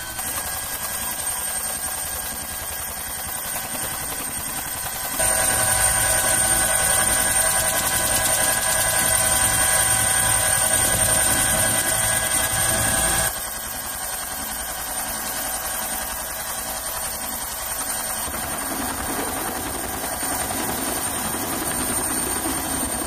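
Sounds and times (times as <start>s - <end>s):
helicopter turbine and rotor: 0.0s - 23.0s.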